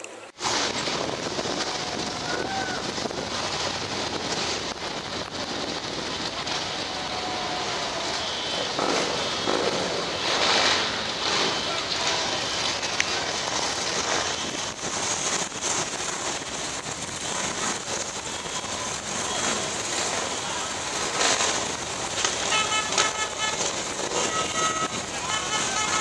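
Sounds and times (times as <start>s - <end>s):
many motorcycle engines: 0.0s - 26.0s.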